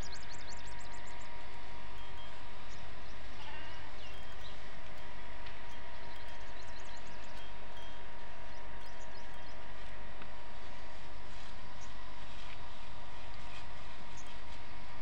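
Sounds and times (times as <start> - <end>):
small birds chirping: 0.0 - 12.4, 13.2 - 15.0.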